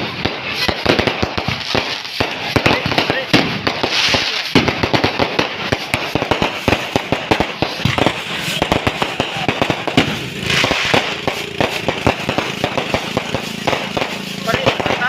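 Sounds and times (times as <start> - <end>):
fireworks cracking and popping: 0.0 - 15.0
hissing crackle of fireworks: 0.0 - 15.0.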